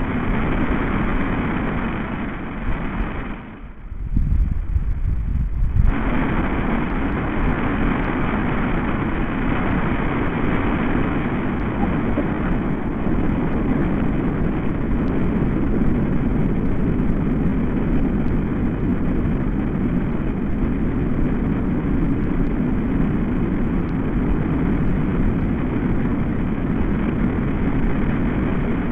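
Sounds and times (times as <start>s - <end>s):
wind rushing through leaves: 0.0s - 28.9s.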